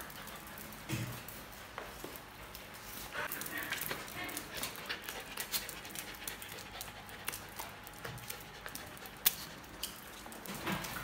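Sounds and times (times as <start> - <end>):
puppy claws clicking on tile: 2.1 - 11.0.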